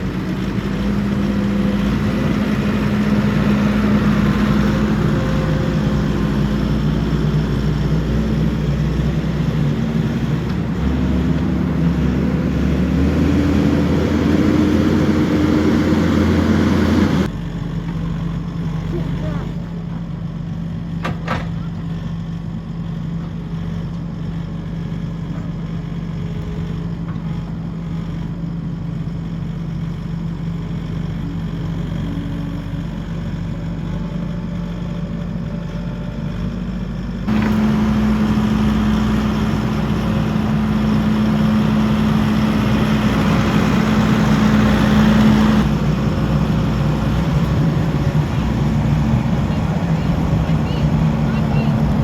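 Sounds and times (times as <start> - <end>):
skid steer engine running: 0.0 - 52.0.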